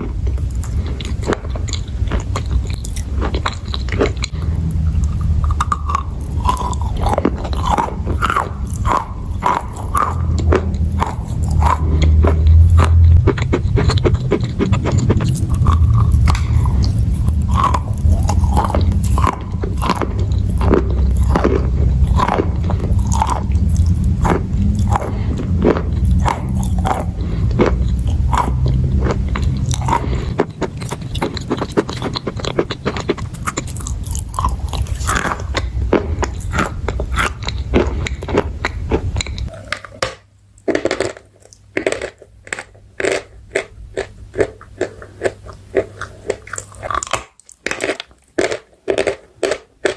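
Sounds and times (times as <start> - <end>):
crunchy chewing: 0.0 - 49.9
low steady hum: 0.0 - 49.9.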